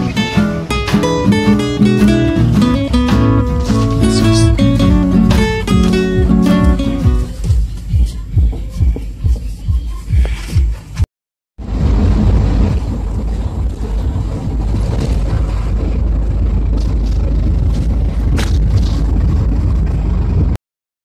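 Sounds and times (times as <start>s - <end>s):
road noise: 0.0s - 8.3s, 11.6s - 20.6s
vehicle engine rumble: 0.0s - 9.9s, 11.6s - 20.6s.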